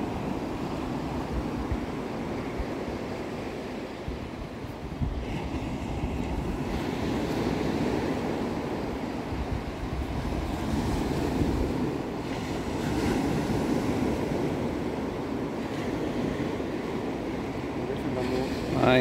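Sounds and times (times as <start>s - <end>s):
sea surf washing on shore: 0.0s - 19.0s
wind buffeting microphone: 0.0s - 19.0s.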